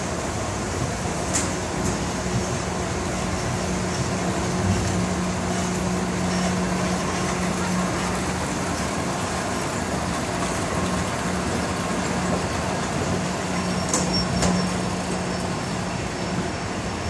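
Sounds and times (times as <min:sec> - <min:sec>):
cars and buses passing: 0:00.0 - 0:17.0.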